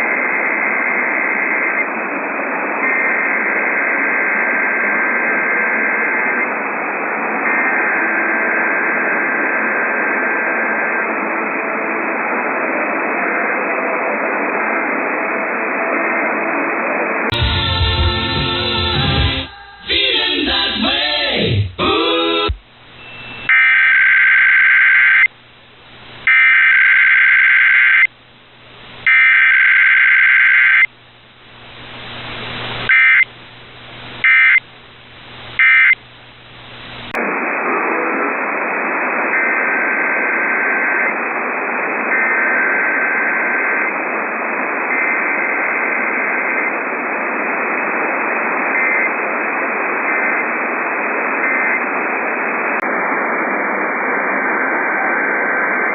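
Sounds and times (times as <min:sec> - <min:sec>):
heavy radio static: 0:00.0 - 0:14.5, 0:19.9 - 0:55.9.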